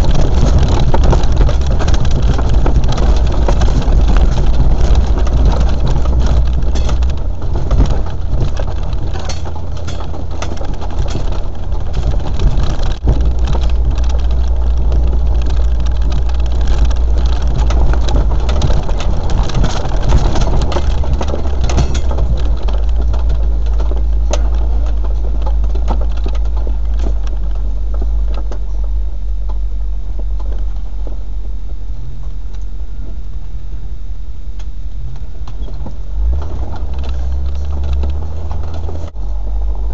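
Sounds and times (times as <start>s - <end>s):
knocks and rattles: 0.0s - 32.4s, 35.2s - 39.9s
vehicle engine rumbling: 0.0s - 39.9s.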